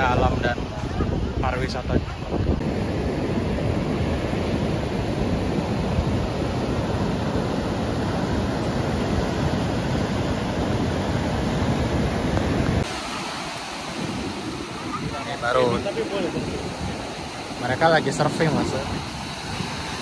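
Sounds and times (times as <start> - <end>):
wind rumble on microphone: 0.0 - 13.0, 13.6 - 20.0
ocean surf breaking: 0.0 - 20.0.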